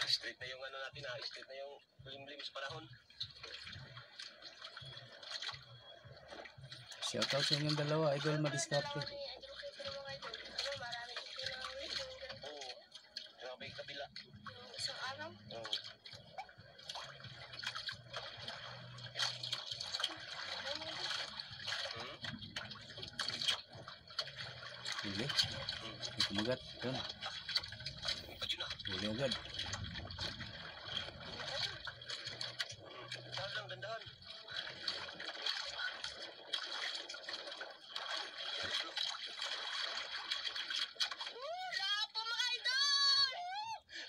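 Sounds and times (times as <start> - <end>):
water lapping against boat hull: 0.0 - 44.0.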